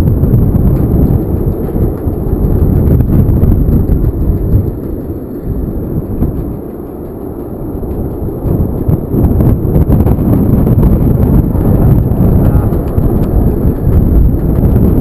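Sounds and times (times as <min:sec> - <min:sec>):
storm wind on microphone: 0:00.0 - 0:15.0.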